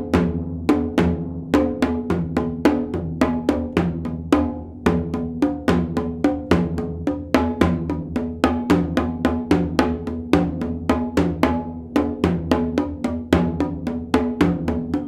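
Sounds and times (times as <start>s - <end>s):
drums struck with sticks: 0.0s - 15.0s.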